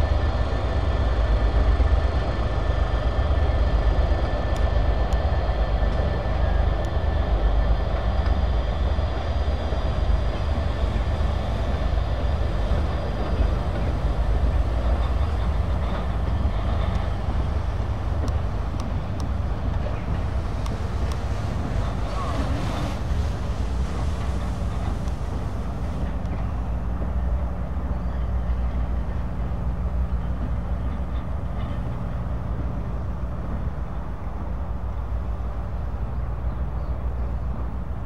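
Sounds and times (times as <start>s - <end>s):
diesel locomotive engine droning: 0.0s - 38.0s
train coaches rumbling on track: 0.0s - 38.0s.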